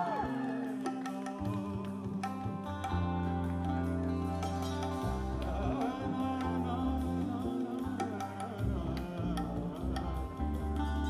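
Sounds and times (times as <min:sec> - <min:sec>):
live fusion rock band playing: 0:00.0 - 0:11.0.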